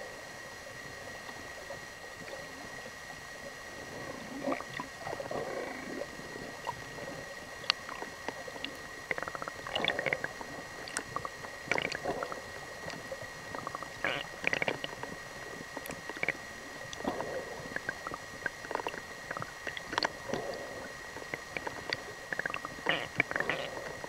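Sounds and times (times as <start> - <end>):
underwater hiss: 3.7 - 24.0
muffled sounds: 3.8 - 24.0.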